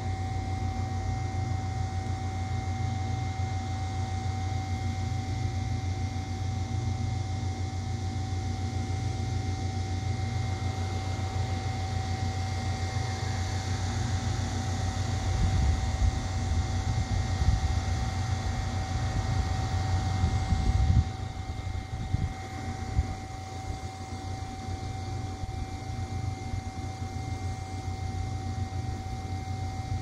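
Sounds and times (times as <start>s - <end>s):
outdoor hum with tones: 0.0s - 30.0s.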